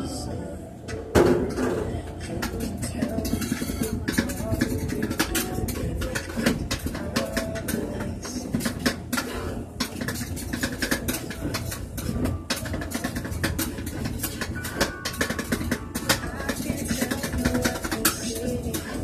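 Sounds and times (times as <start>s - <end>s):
metal spatulas chopping on steel: 2.4s - 19.0s.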